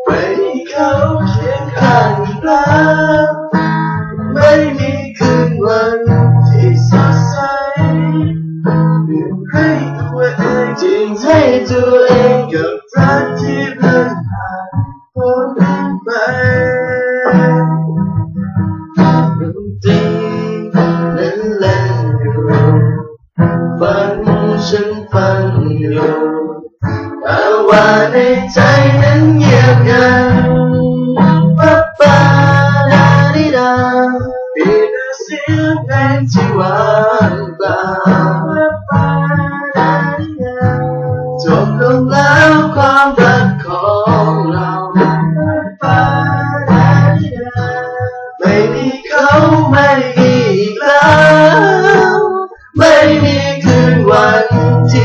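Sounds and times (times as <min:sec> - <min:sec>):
young men singing: 0:00.0 - 0:08.5, 0:09.1 - 0:17.6, 0:19.4 - 0:23.0, 0:23.8 - 0:55.0
acoustic guitar strumming: 0:00.0 - 0:55.0.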